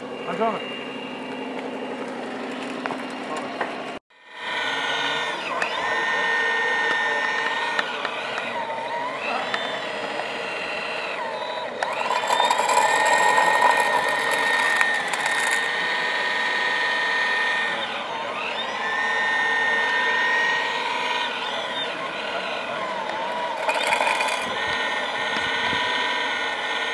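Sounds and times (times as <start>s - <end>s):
hydraulic pump whining: 0.0s - 26.9s.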